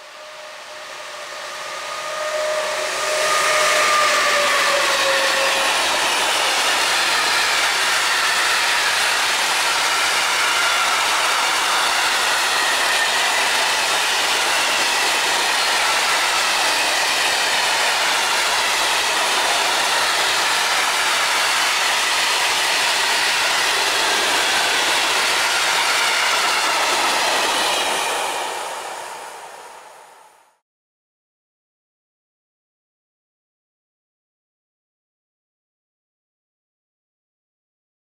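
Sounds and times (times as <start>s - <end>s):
train wheels on rails: 0.0s - 30.6s.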